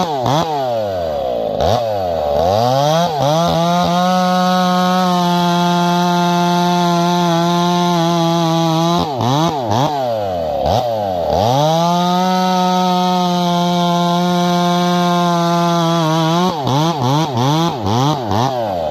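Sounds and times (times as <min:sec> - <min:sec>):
chainsaw running at high revs: 0:00.0 - 0:18.9.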